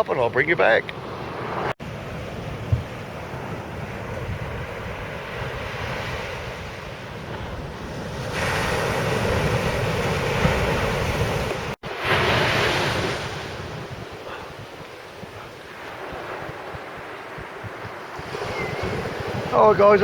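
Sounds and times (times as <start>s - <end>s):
wind buffeting microphone: 1.0s - 20.0s
surf breaking on beach: 1.3s - 20.0s.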